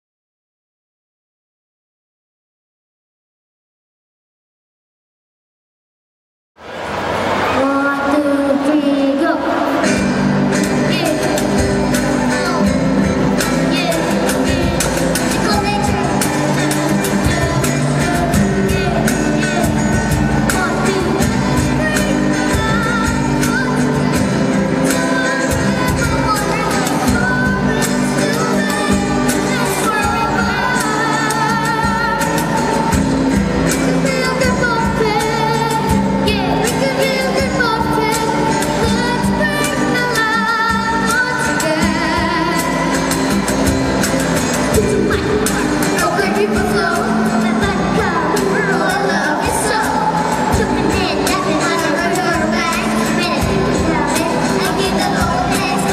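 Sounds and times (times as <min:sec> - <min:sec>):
girl singing into microphone: 0:07.6 - 0:32.9, 0:33.5 - 0:43.6, 0:44.6 - 0:55.9
acoustic guitars strummed: 0:09.6 - 0:55.9
cajon beat: 0:09.8 - 0:55.9.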